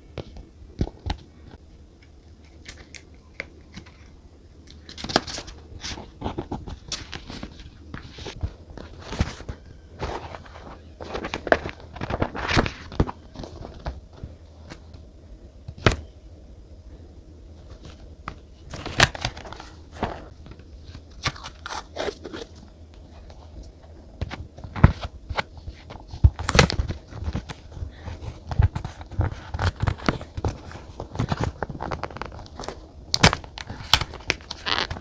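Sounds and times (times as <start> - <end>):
faint low hum: 0.0 - 35.0
paper crinkling and rustling: 2.4 - 15.0, 17.6 - 35.0.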